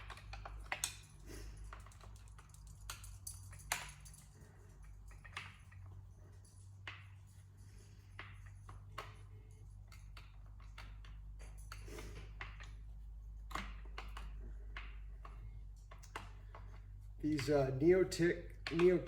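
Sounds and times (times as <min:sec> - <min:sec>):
low steady hum: 0:00.0 - 0:19.0
metal tools clicking and tapping: 0:00.0 - 0:19.0.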